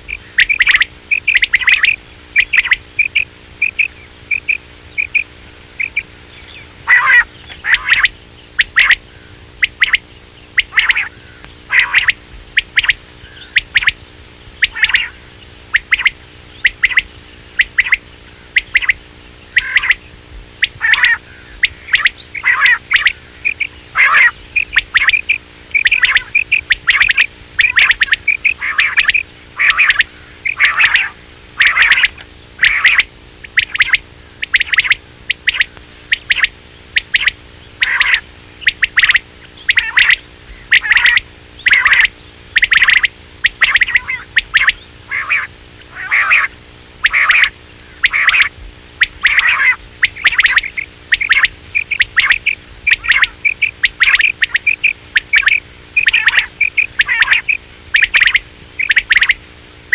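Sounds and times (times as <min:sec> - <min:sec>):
quail calls: 0:00.0 - 0:59.4
faint steady hum: 0:00.0 - 0:59.9.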